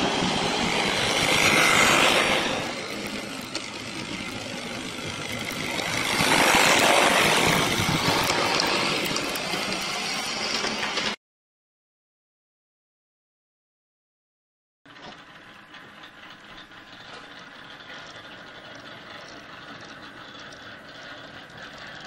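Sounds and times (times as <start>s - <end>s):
model train running on track: 0.0s - 11.2s, 14.9s - 22.0s.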